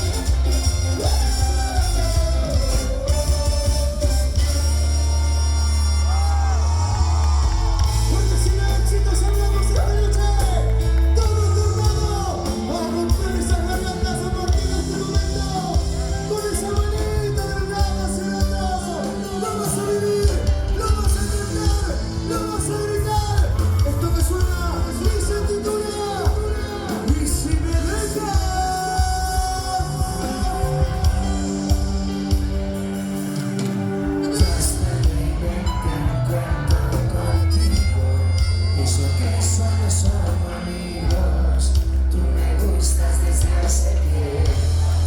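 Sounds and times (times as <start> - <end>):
heavy bass line: 0.0 - 45.0
live band song: 0.0 - 45.0
melodic lead: 0.0 - 45.0.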